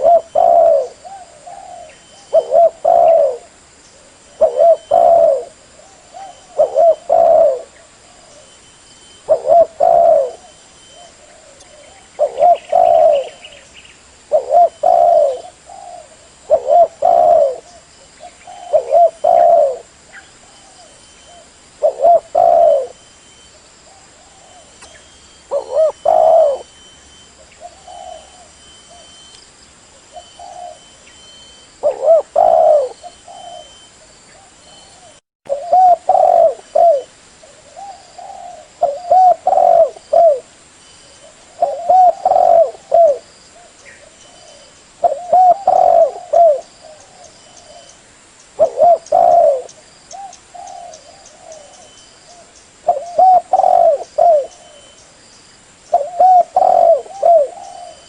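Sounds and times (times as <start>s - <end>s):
dove cooing: 0.0s - 8.6s, 9.2s - 23.2s, 23.9s - 29.3s, 30.0s - 40.5s, 41.1s - 48.0s, 48.6s - 55.0s, 55.9s - 58.0s.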